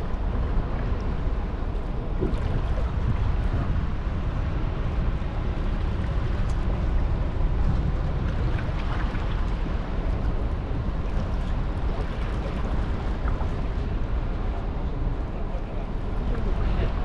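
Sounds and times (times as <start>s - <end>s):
fishing boat engine noise: 0.0s - 17.0s
water around boat: 0.0s - 17.0s
wind buffeting microphone: 0.0s - 17.0s.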